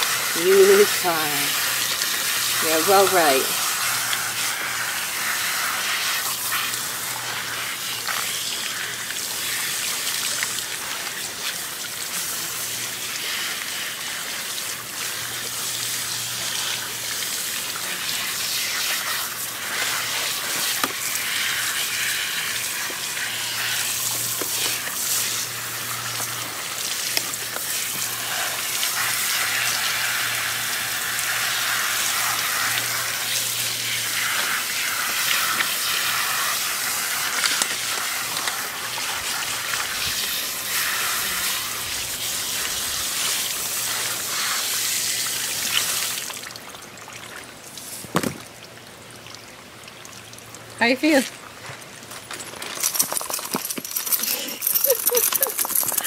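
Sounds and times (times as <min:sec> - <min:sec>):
water spraying: 0:00.0 - 0:46.5, 0:52.8 - 0:56.0.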